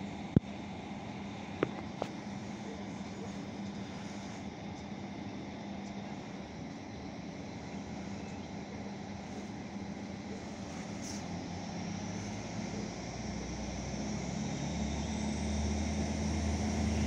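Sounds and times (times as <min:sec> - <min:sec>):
distant train engine hum: 0:00.0 - 0:17.0
outdoor background noise: 0:00.0 - 0:17.0.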